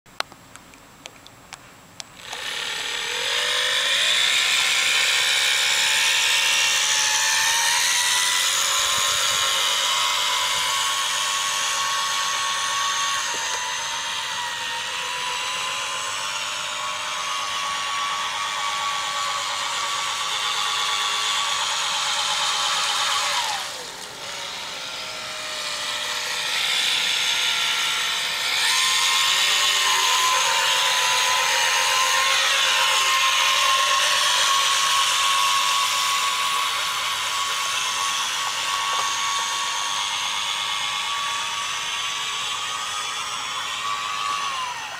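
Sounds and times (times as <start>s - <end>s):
electric boat motor whining: 2.2s - 44.9s.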